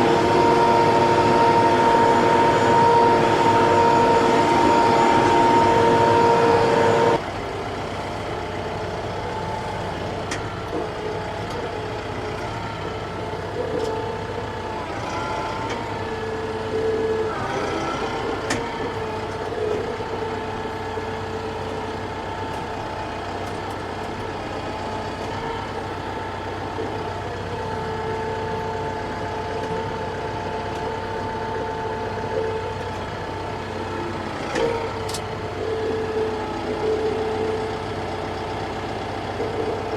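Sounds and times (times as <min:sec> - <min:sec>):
constant whine: 0:00.0 - 0:39.9
tractor diesel engine running: 0:00.0 - 0:39.9.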